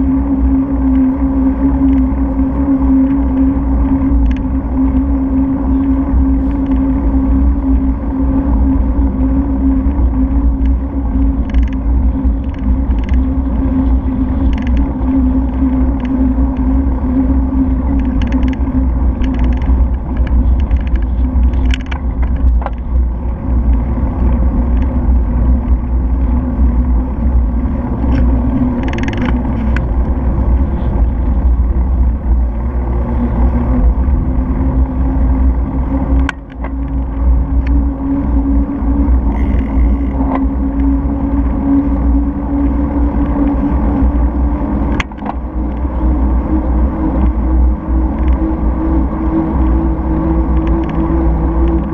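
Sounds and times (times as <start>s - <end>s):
bicycle clicks and rattles: 0.0s - 51.9s
road rumble: 0.0s - 51.9s
wind on microphone: 0.0s - 51.9s.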